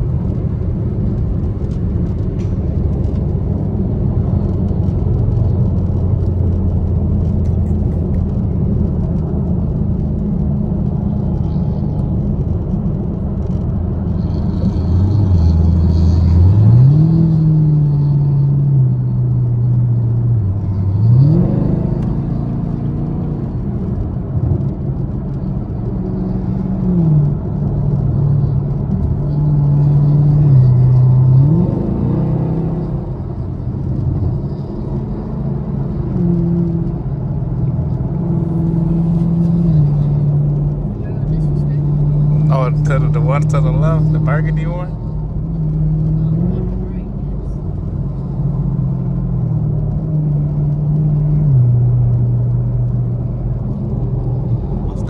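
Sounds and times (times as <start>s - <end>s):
car engine droning in cabin: 0.0s - 55.0s.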